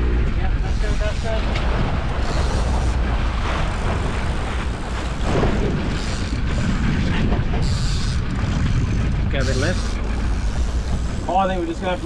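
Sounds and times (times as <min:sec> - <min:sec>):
boat engine running: 0:00.0 - 0:12.0
wind and water rushing: 0:00.0 - 0:12.0.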